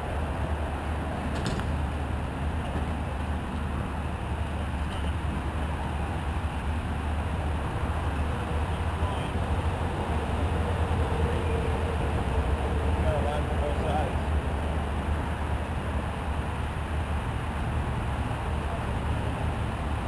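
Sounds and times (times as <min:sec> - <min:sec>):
low outdoor background rumble: 0:00.0 - 0:20.0.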